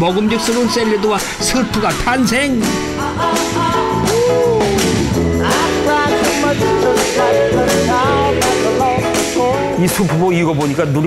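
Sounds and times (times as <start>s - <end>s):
song with steady beat: 0.0s - 10.8s.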